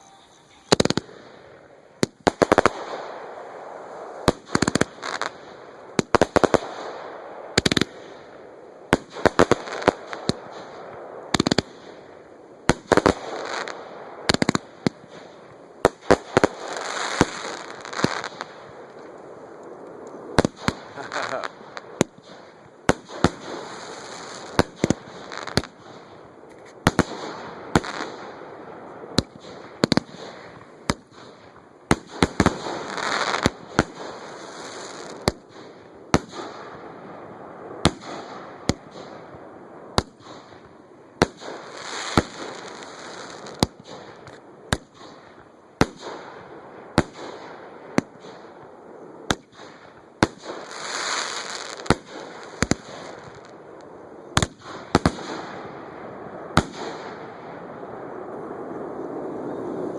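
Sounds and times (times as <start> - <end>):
fireworks crackling rushes: 0.0 - 59.9
fireworks sharp bangs: 0.0 - 59.9.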